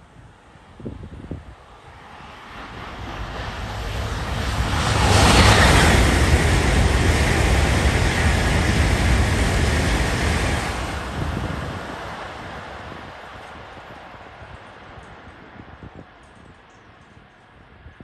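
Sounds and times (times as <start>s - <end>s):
train passing at speed: 0.0s - 18.0s.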